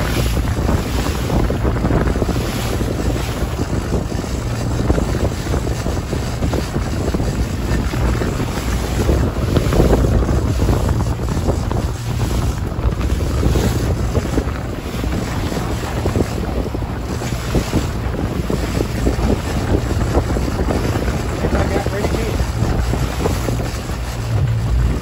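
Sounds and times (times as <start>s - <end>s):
boat engine drone: 0.0s - 25.0s
water slapping hull: 0.0s - 25.0s
wind buffeting microphone: 0.0s - 25.0s.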